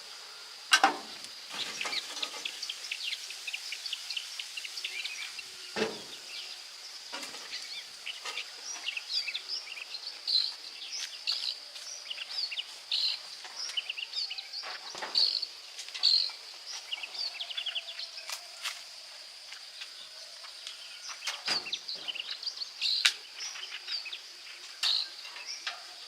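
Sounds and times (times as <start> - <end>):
birds chirping: 0.0 - 26.0
high insect drone: 0.0 - 26.0.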